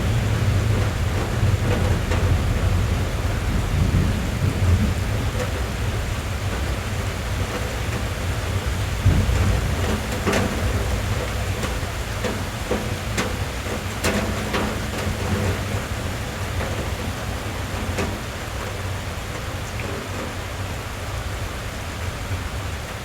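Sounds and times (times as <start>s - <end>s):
rain drumming on car roof: 0.0s - 23.0s.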